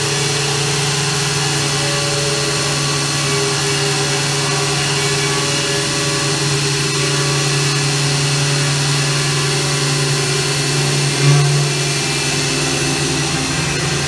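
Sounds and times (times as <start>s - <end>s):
hiss: 0.0s - 14.0s
machine mechanical hum: 0.0s - 14.0s.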